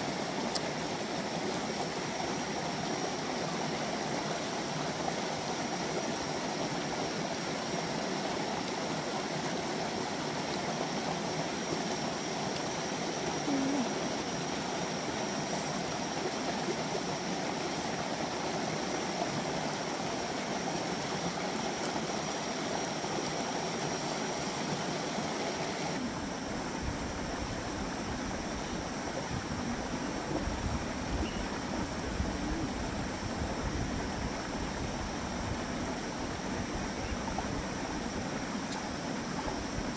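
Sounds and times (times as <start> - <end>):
creek rushing over stones: 0.0 - 39.9.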